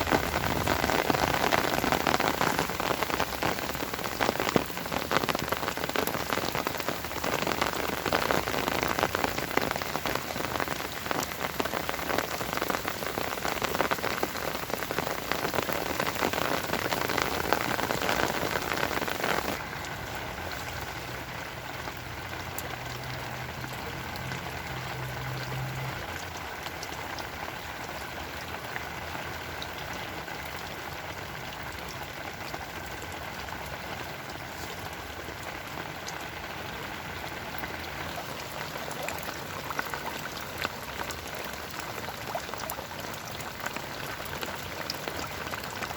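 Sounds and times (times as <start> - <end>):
rain pattering on a surface: 0.0 - 45.9.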